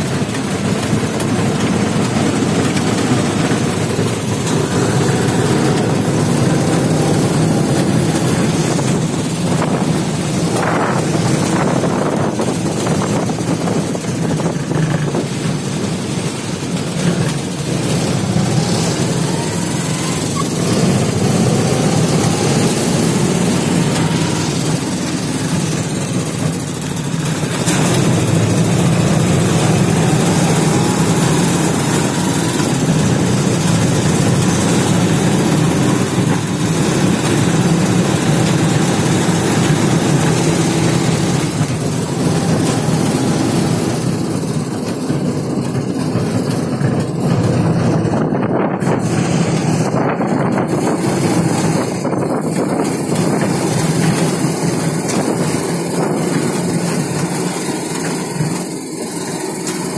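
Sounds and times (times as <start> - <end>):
auto-rickshaw engine droning: 0.0 - 59.9
road and wind noise: 0.0 - 59.9.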